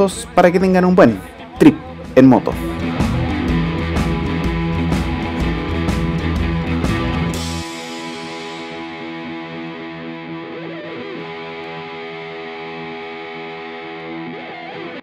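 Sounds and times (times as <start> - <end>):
distorted electric guitar chord: 2.6 - 15.0.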